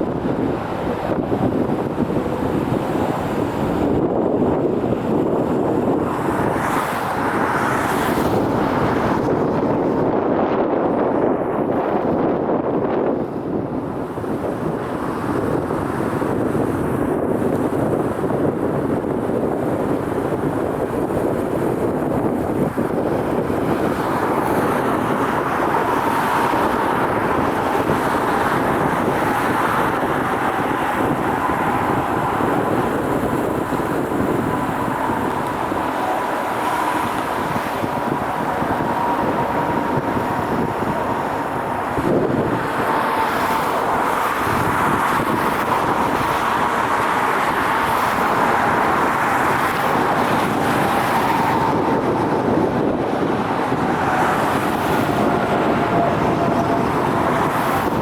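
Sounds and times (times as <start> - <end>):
engine and traffic noise: 0.0 - 58.0.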